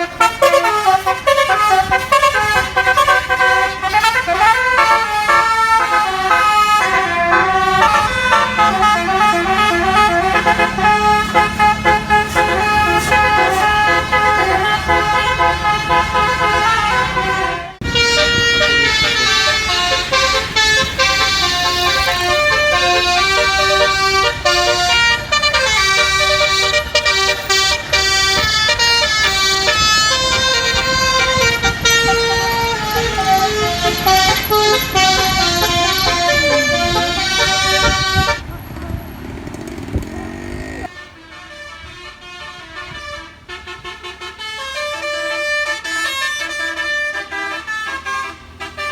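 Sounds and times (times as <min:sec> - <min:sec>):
musical bus horn melody: 0:00.0 - 0:38.5, 0:40.7 - 0:48.9
low engine rumble: 0:00.0 - 0:41.1.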